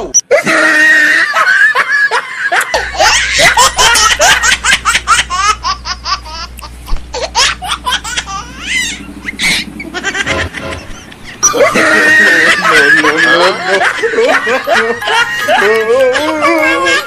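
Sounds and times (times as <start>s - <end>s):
high-pitched giggling: 0.0s - 17.0s.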